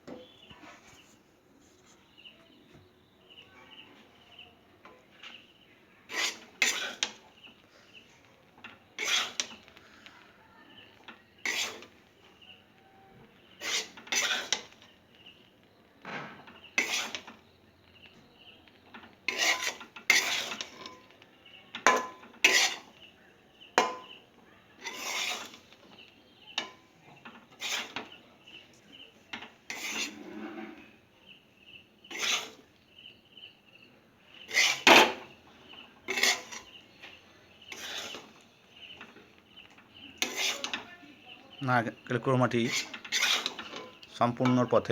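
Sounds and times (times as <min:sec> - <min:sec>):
spatula scraping in a wok: 0:03.3 - 0:33.6, 0:34.2 - 0:44.9.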